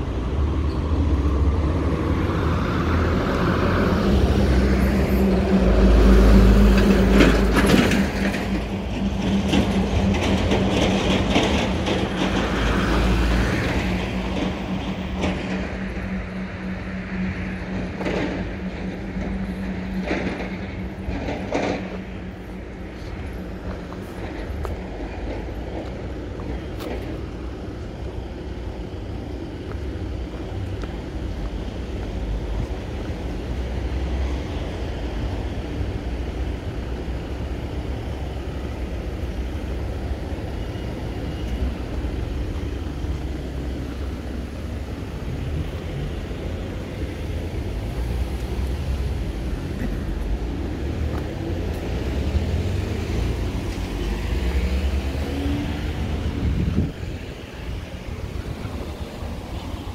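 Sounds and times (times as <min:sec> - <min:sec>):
town street rumble: 0:00.0 - 0:59.9.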